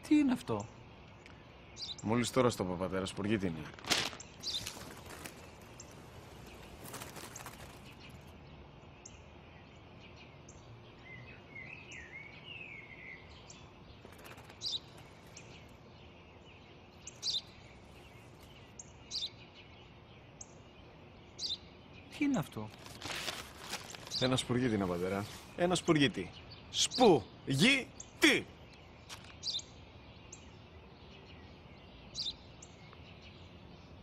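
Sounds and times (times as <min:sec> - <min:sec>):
outdoor background noise: 0:00.0 - 0:34.0
sparrow chirping: 0:00.0 - 0:34.0.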